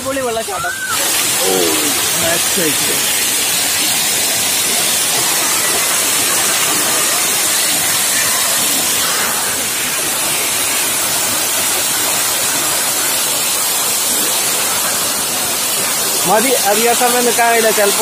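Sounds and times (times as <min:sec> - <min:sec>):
waterfall splashing on rock: 0:00.0 - 0:18.0.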